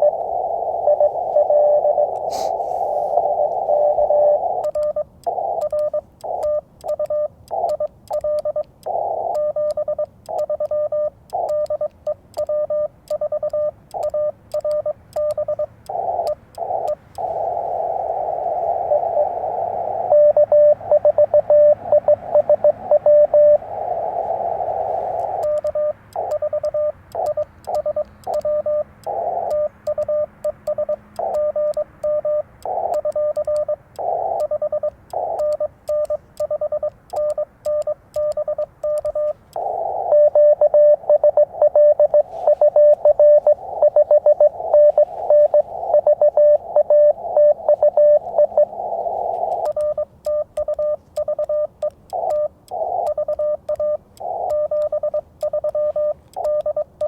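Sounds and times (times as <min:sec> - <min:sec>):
morse code beeping: 0:00.0 - 0:57.0
receiver hiss: 0:00.0 - 0:57.0.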